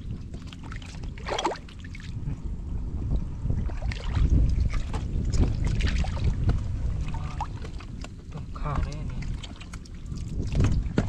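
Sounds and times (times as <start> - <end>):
hands sloshing in mud and water: 0.0 - 2.3, 3.5 - 11.0.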